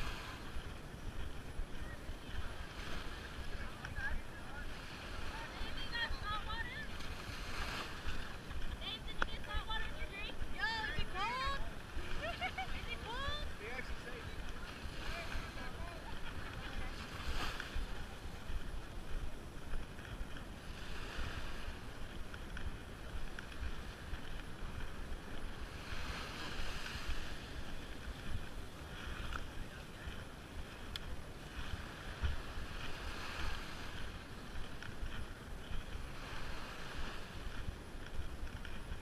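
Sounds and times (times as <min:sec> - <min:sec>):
small waves washing on sand: 0:00.0 - 0:39.0
wind buffeting microphone: 0:00.0 - 0:39.0.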